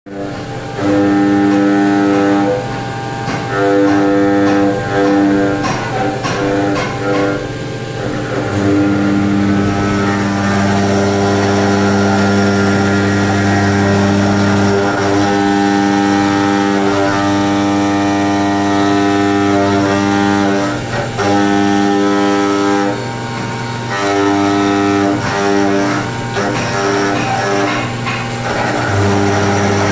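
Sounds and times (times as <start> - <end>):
machine hum: 0.1 - 29.9.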